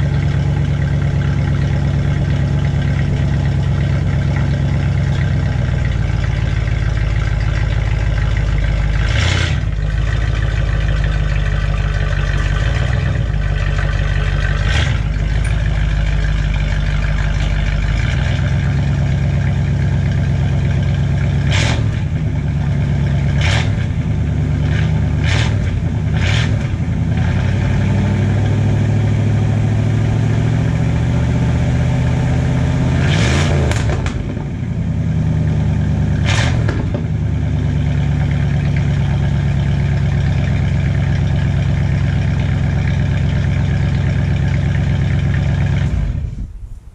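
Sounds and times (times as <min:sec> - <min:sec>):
pickup engine idling: 0:00.0 - 0:33.0, 0:33.6 - 0:46.9
engine throttle blips: 0:00.0 - 0:46.9.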